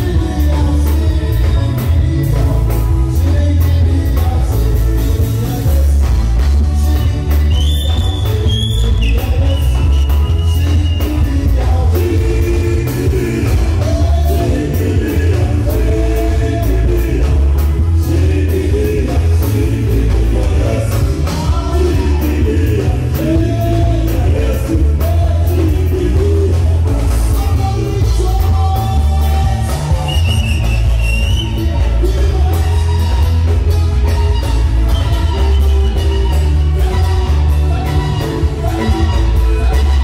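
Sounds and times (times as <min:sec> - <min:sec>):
voices singing: 0:00.0 - 0:40.0.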